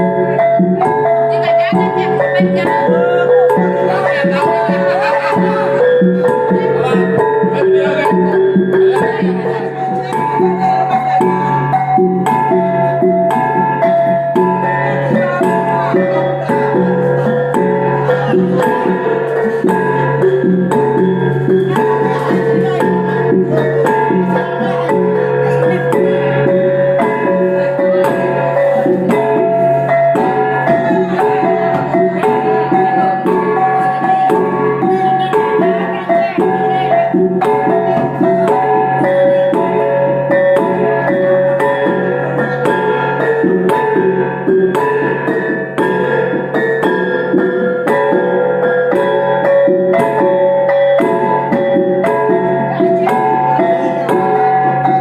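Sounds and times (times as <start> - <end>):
brass gongs struck in rhythm: 0.0 - 55.0.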